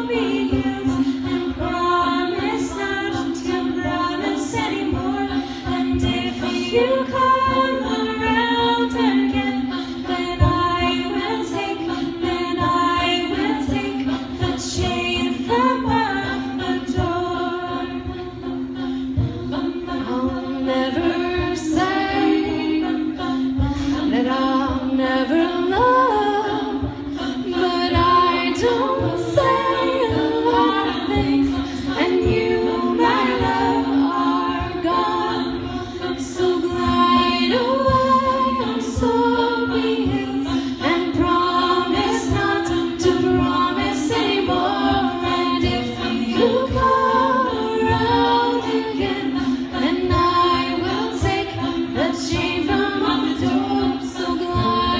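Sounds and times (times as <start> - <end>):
vocal group singing in harmony: 0.0 - 54.9.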